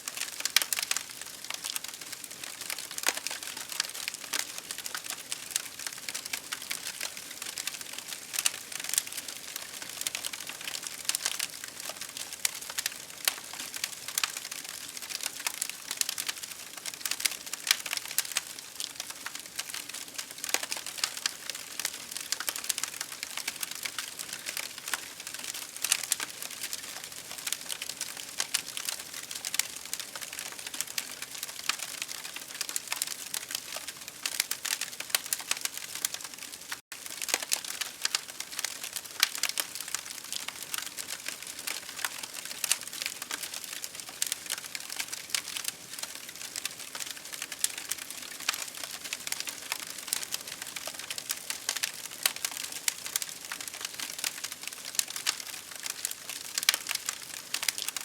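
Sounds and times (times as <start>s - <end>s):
campfire crackling: 0.1s - 58.0s.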